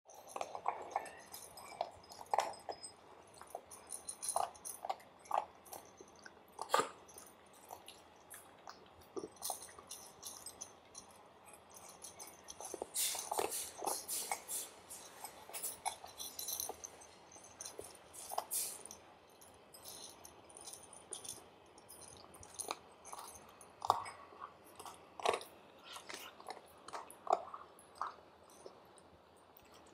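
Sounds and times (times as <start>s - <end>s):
animals crunching kibble: 0.1s - 18.8s, 19.9s - 29.9s.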